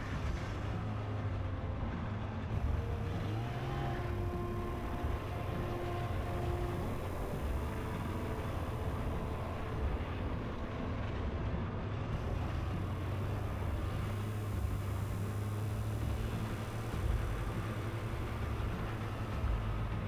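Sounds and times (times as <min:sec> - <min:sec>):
rushing noise: 0:00.0 - 0:20.0
snowmobile engine running: 0:00.0 - 0:20.0.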